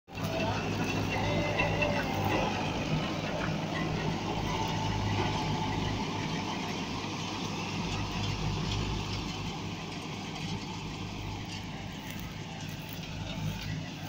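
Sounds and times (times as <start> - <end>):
tractor diesel engine under load: 0.1 - 14.0.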